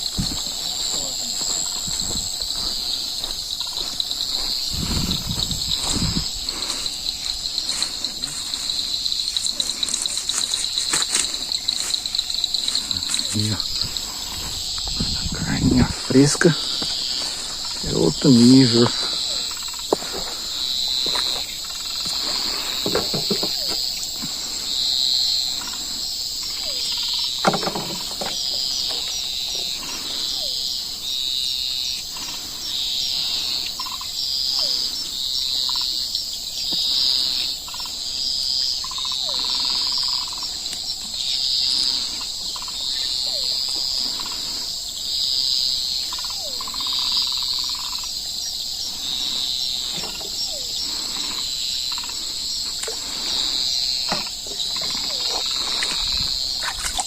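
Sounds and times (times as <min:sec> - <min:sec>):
cricket chirps: 0:00.0 - 0:57.0
insects buzzing: 0:00.0 - 0:57.0.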